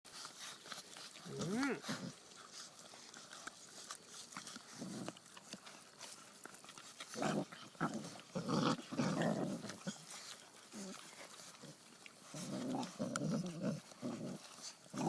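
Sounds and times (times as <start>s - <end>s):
puppies growling: 0.1s - 15.0s.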